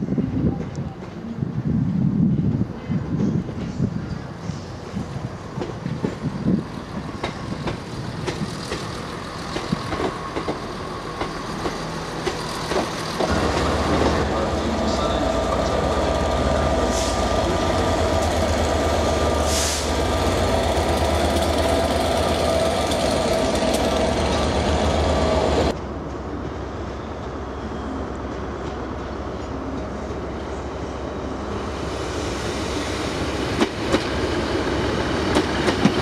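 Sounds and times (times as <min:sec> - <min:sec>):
diesel locomotive engine drone: 0:00.0 - 0:36.0
diesel train approaching: 0:03.3 - 0:36.0.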